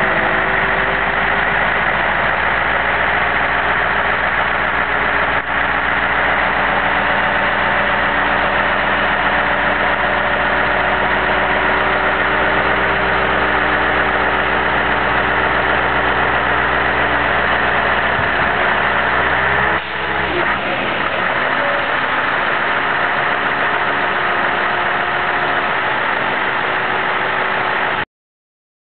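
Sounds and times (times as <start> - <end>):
diesel truck engine running: 0.0 - 28.1.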